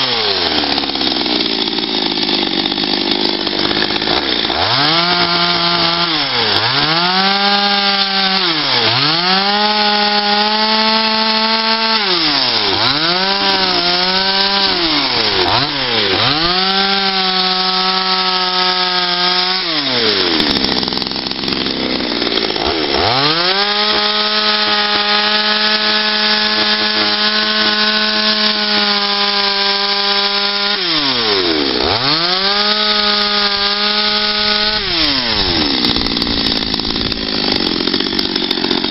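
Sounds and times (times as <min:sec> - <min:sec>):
chainsaw carving wood: 0:00.0 - 0:38.9.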